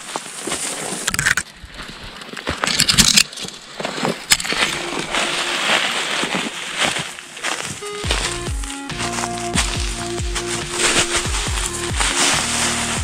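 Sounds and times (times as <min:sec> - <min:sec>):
footsteps rustling through dry leaves: 0:00.0 - 0:01.0, 0:03.3 - 0:13.0
twigs snapping underfoot: 0:00.9 - 0:05.2, 0:05.9 - 0:13.0.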